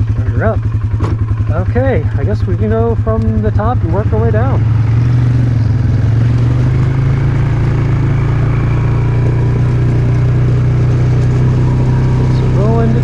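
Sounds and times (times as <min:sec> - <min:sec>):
atv engine humming: 0:00.0 - 0:13.0.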